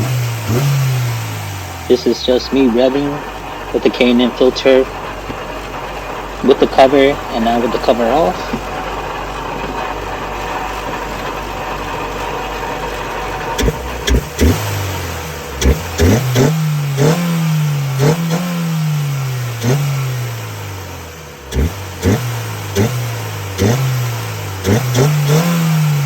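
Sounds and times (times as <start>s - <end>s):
car engine idling and revving: 0.0s - 26.0s
engine intake noise: 0.0s - 26.0s.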